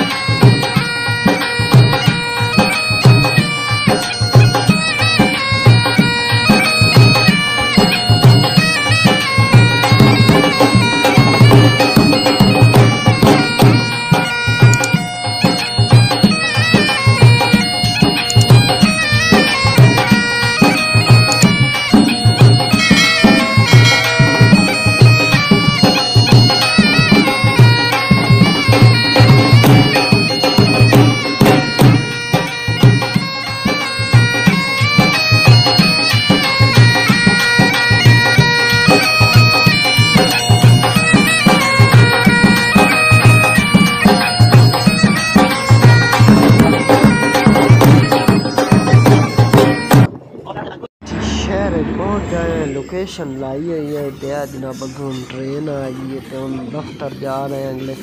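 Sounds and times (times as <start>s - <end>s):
steady drum beat: 0.0s - 50.1s
wind instrument melody: 0.0s - 50.2s, 51.0s - 58.0s.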